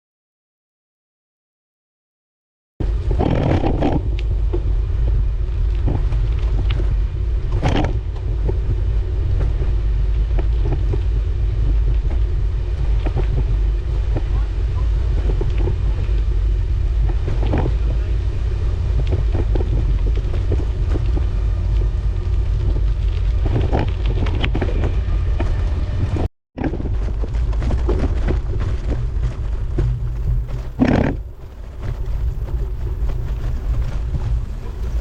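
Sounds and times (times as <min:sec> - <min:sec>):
wind buffeting microphone: 0:02.8 - 0:35.0.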